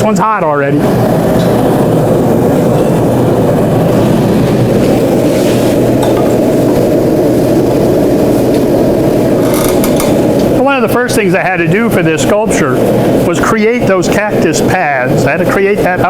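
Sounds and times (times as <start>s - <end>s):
propane forge burner rushing: 0.0s - 16.0s.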